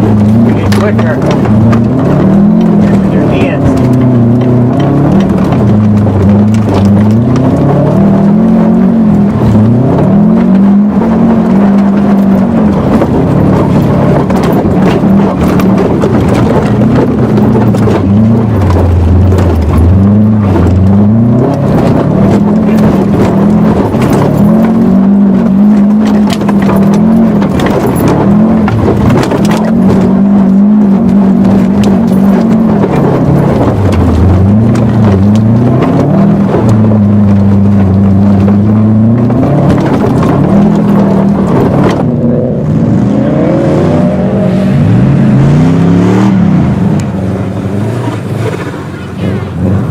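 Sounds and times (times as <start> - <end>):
clicks and rattles: 0.0 - 42.2
car engine revving: 0.0 - 49.9.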